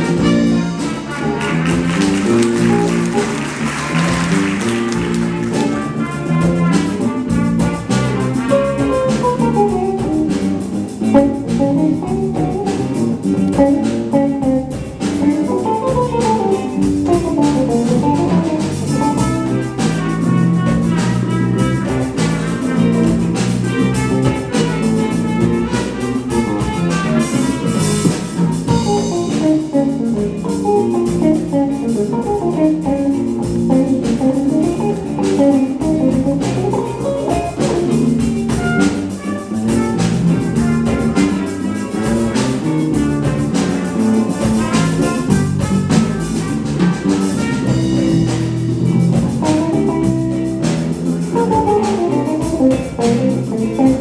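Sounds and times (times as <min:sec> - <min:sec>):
plucked electric string solo: 0:00.0 - 0:44.5, 0:45.6 - 0:54.0
congas: 0:00.0 - 0:54.0
drum kit: 0:00.0 - 0:54.0
jazz ensemble playing funk: 0:00.0 - 0:54.0.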